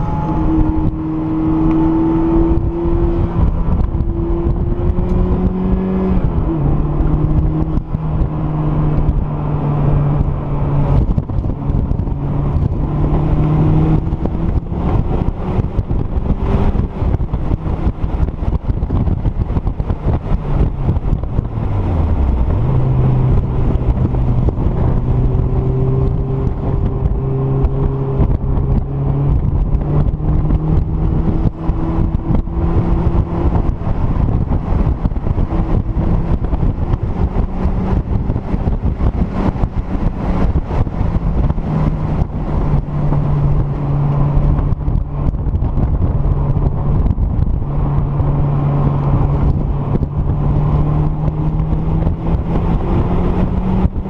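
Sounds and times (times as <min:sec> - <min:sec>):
car engine running hard: 0:00.0 - 0:54.0
wind buffeting: 0:00.0 - 0:54.0.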